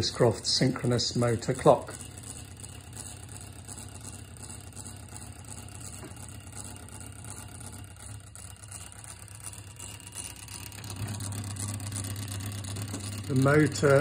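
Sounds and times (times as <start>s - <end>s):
clock motor humming: 0.0s - 14.0s.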